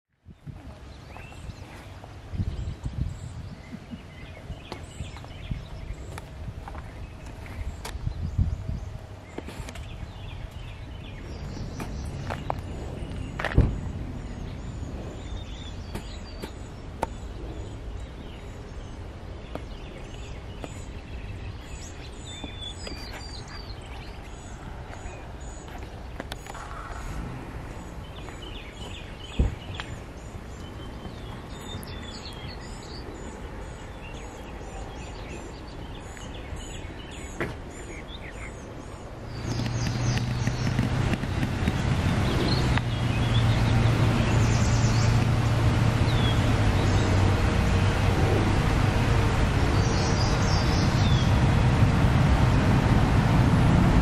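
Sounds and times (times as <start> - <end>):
low rumble with steady hum: 0.3 - 37.8, 38.8 - 54.0
birds chirping and singing: 0.3 - 51.8.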